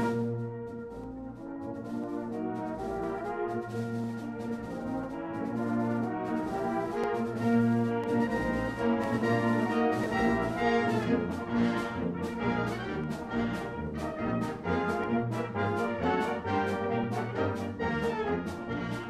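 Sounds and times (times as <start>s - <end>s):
brass band playing: 0.0s - 19.0s
percussion strikes: 0.0s - 19.0s.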